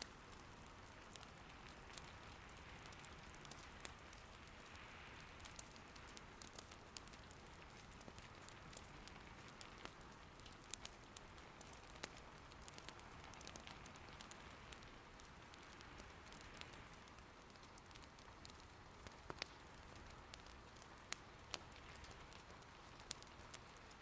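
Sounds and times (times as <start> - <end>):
rain patter: 0.0 - 24.0
wood fire crackling and popping: 0.0 - 24.0.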